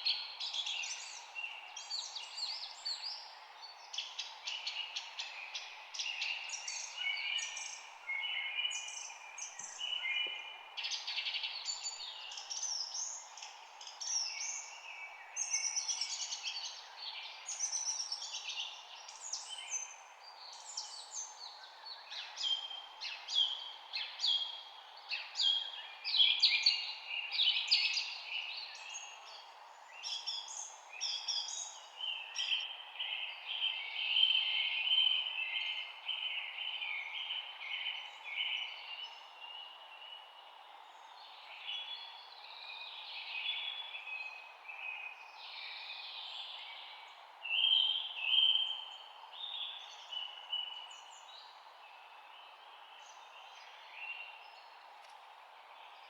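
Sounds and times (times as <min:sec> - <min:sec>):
songbirds chirping and singing: 0:04.0 - 0:56.0.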